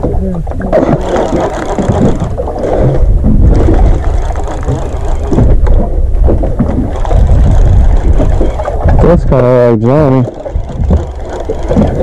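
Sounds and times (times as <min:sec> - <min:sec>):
water around boat hull: 0:00.0 - 0:12.0
wind buffeting microphone: 0:00.0 - 0:12.0.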